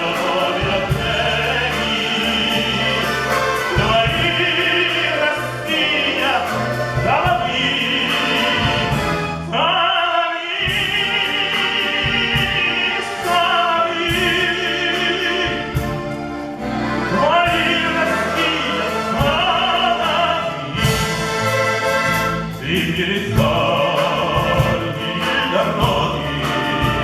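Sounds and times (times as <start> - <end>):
man singing opera: 0.0 - 16.0, 17.1 - 21.2, 22.6 - 27.0
orchestral accompaniment: 0.0 - 27.0.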